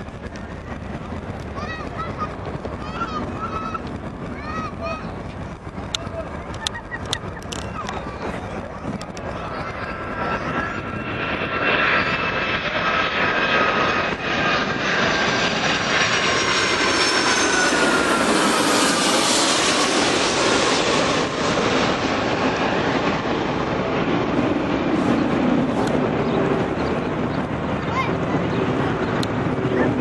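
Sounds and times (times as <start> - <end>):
jet engine whine: 0.0 - 30.0
rushing noise of jet: 0.0 - 30.0.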